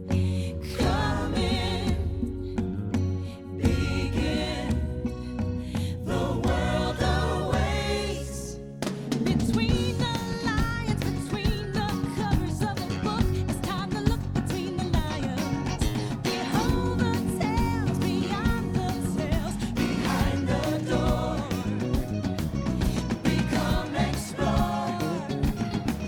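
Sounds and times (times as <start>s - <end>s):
upbeat music with singing: 0.0s - 26.0s.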